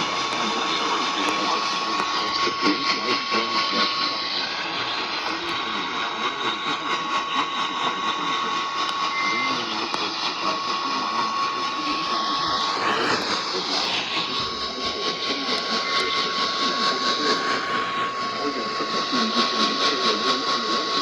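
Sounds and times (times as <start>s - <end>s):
heavy radio static: 0.0s - 21.0s.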